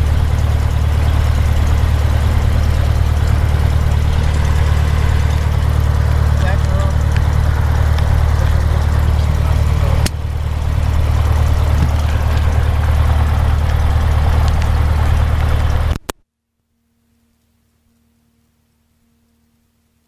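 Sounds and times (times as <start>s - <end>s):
plane engine idling: 0.0s - 16.1s.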